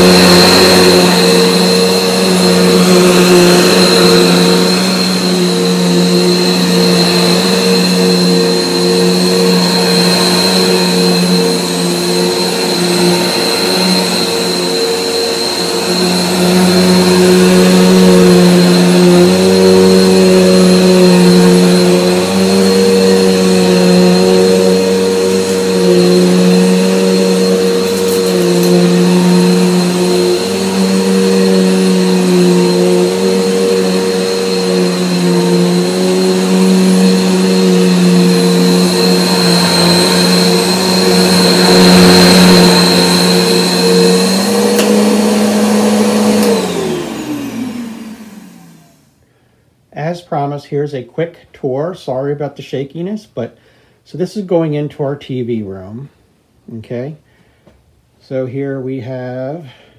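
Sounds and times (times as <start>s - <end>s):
vacuum cleaner on carpet: 0.0s - 49.2s
vacuum motor winding down: 0.0s - 49.2s.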